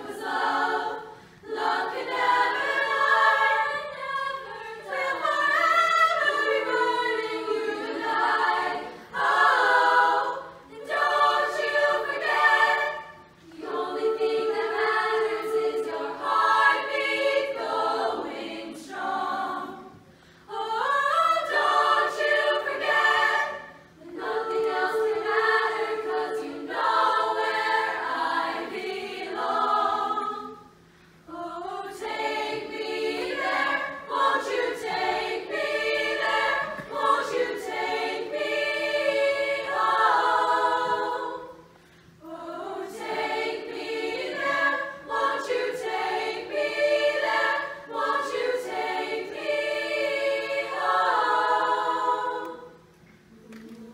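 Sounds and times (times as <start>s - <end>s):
girls' choir singing: 0.0s - 53.9s.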